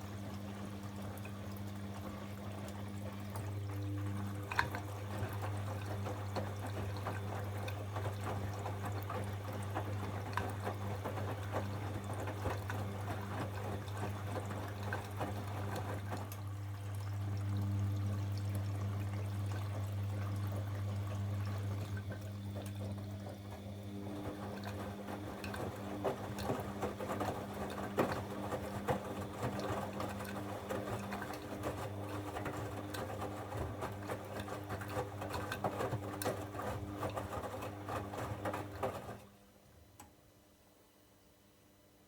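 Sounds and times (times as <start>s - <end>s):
water gurgling and splashing: 0.0s - 39.1s
washing machine pump humming: 0.0s - 40.4s.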